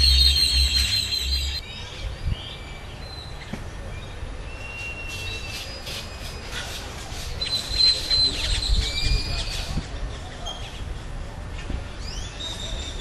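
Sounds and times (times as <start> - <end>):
birds whistling and chirping: 0.0 - 10.9, 12.0 - 13.0
faint background noise: 0.0 - 13.0.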